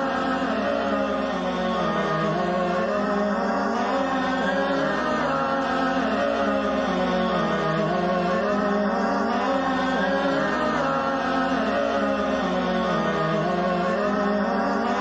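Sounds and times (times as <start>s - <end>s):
electronic drone music: 0.0s - 15.0s.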